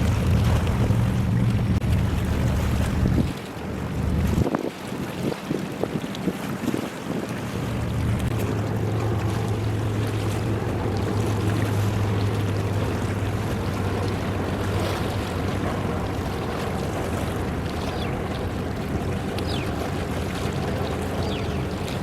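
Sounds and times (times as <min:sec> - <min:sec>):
ship engine drone: 0:00.0 - 0:04.5, 0:07.2 - 0:22.0
water rushing: 0:00.0 - 0:22.0
wind: 0:00.0 - 0:22.0.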